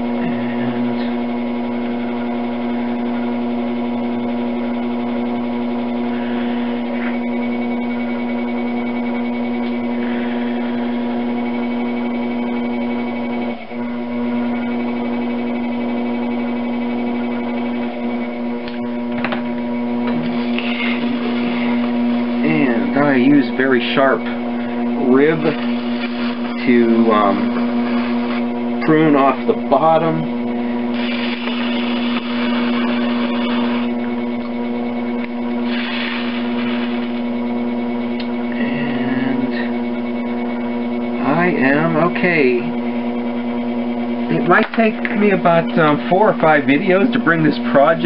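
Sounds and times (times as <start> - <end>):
potter's wheel motor humming: 0.0 - 48.0.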